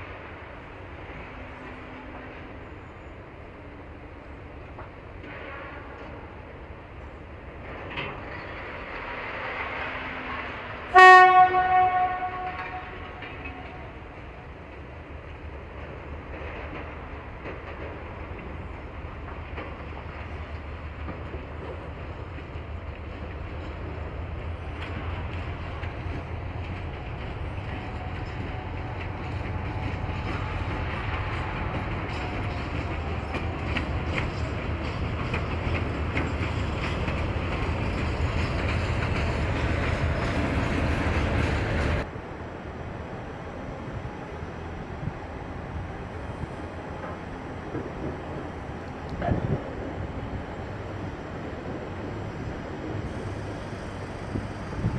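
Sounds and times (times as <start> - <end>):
train running on rails: 0.0 - 54.9
wheels clacking over rail joints: 0.0 - 54.9.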